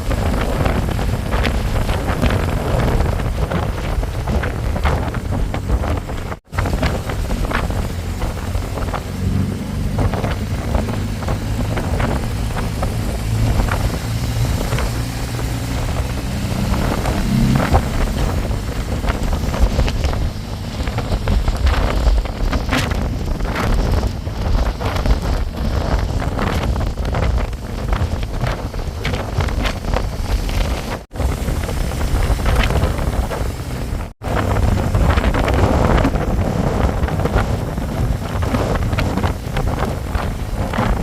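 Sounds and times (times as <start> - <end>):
motorbike engine drone: 0.0 - 41.0
wind buffeting microphone: 0.0 - 41.0.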